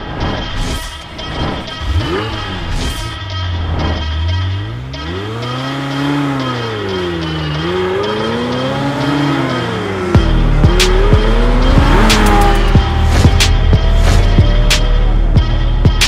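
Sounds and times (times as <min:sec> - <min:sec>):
music with heavy beat: 0:00.0 - 0:16.0
sports car engine revving: 0:01.6 - 0:16.0.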